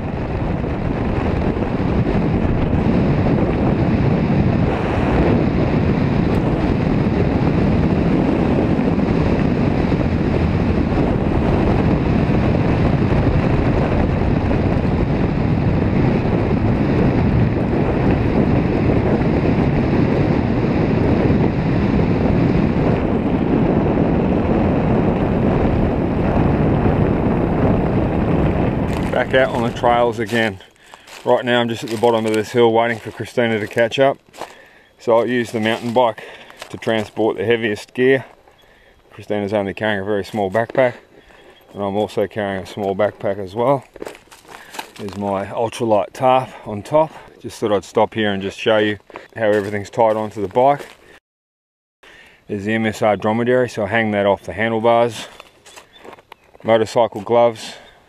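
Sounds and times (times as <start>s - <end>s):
wind rumbling on microphone: 0.0s - 51.2s, 52.1s - 58.0s.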